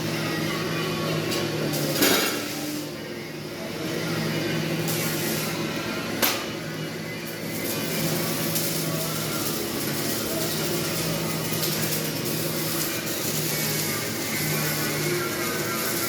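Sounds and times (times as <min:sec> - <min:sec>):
arc welding crackling hiss: 0:01.5 - 0:03.0, 0:04.6 - 0:16.0.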